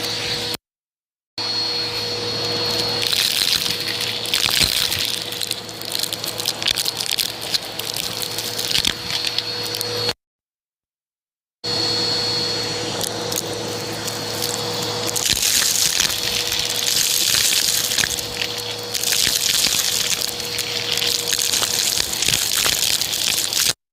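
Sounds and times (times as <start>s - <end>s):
vacuum cleaner motor hum: 0.0s - 0.6s, 1.4s - 10.1s, 11.7s - 23.8s.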